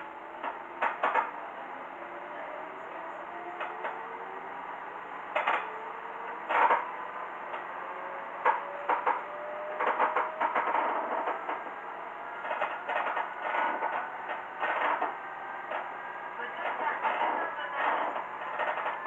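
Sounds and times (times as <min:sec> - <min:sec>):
railcar clacks and rattles: 0:00.2 - 0:01.9, 0:02.6 - 0:19.0.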